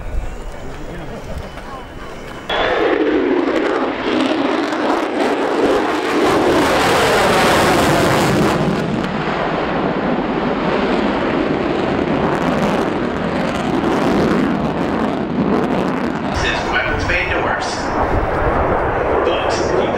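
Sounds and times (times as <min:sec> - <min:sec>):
jet engine roar: 0:00.0 - 0:19.9.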